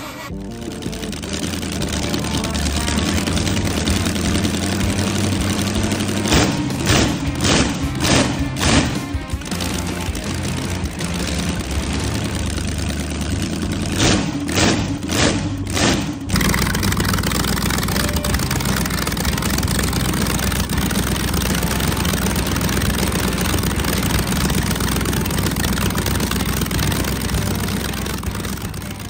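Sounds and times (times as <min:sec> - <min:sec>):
boat engine running loud: 0:00.0 - 0:29.0
sharp engine bangs: 0:00.0 - 0:29.0.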